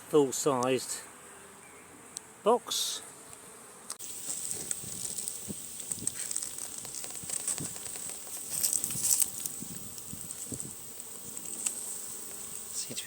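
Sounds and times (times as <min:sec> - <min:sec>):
honeybees buzzing: 0:00.0 - 0:13.0
bee flying close past: 0:00.9 - 0:13.0.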